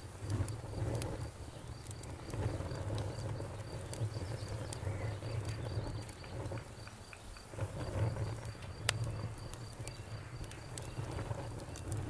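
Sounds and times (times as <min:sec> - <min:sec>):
faint clicks: 0:00.2 - 0:12.0
crickets chirping: 0:00.3 - 0:12.0.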